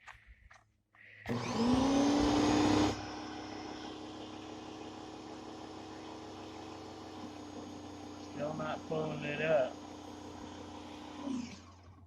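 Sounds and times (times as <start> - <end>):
pressure washer motor humming: 1.3 - 12.0.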